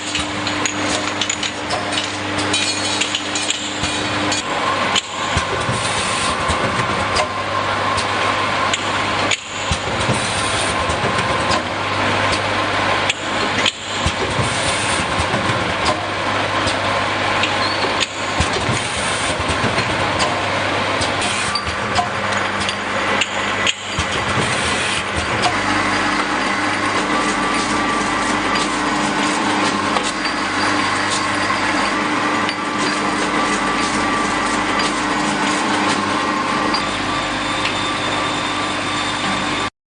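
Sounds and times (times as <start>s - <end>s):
bottle filling machine hum: 0.0s - 39.7s.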